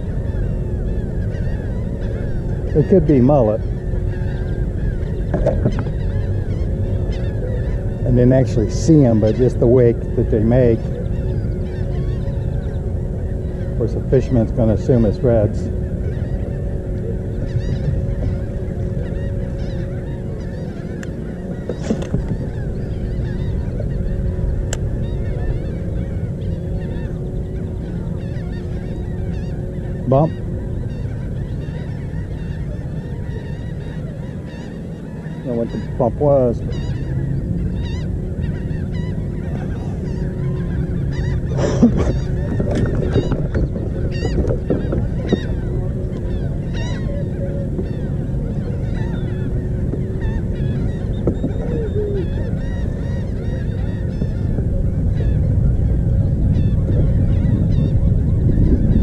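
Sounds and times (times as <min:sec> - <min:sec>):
faint bird chirps: 0:00.0 - 0:59.0
low two-note hum: 0:00.0 - 0:59.0
wind rumbling on microphone: 0:00.0 - 0:59.0.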